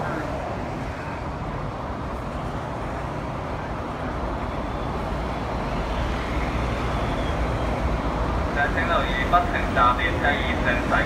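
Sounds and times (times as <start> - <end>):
road traffic: 0.0 - 11.0
train rumble: 0.0 - 11.0.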